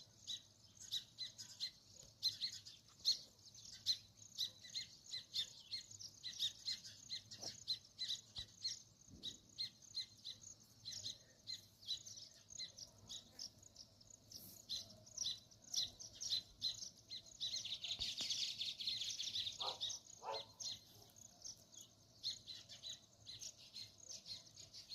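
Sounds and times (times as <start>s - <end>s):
sparrows chirping: 0.0s - 24.9s.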